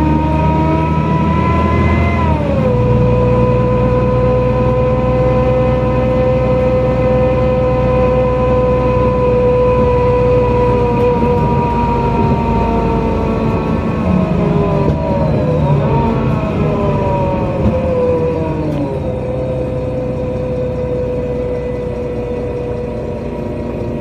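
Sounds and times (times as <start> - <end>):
bus engine whine and rumble: 0.0 - 24.0.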